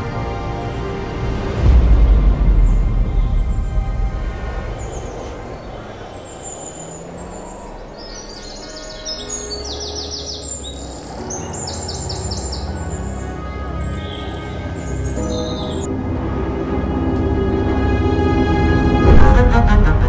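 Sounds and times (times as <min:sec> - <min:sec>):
low drone: 0:00.0 - 0:20.0
soft ambient music: 0:00.0 - 0:20.0
birds chirping: 0:02.4 - 0:18.4.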